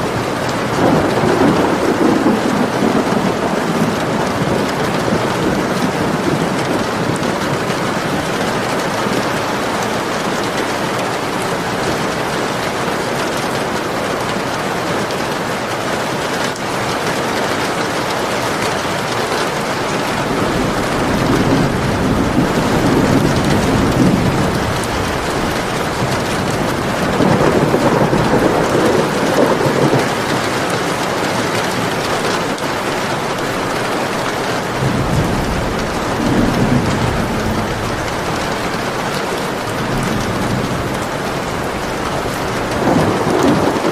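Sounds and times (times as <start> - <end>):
thunder rumbling: 0.0 - 15.5, 19.5 - 43.9
steady rain falling: 0.0 - 43.9.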